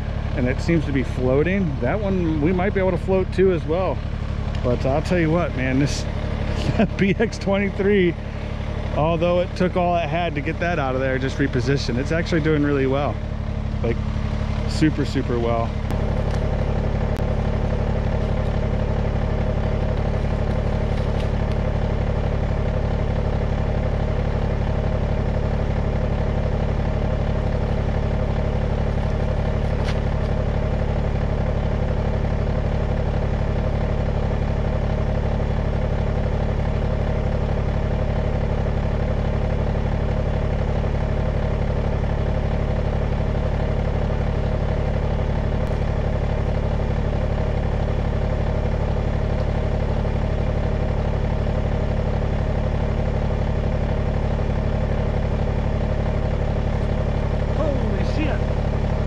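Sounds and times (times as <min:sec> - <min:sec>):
diesel tractor engine idling: 0:00.0 - 0:59.0.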